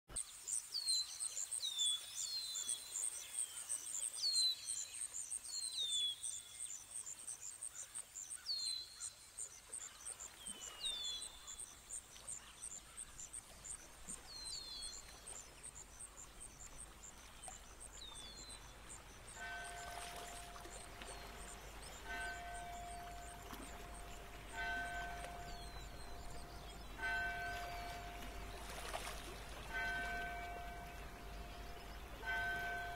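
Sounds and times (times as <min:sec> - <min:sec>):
birds chirping: 0:00.8 - 0:32.9.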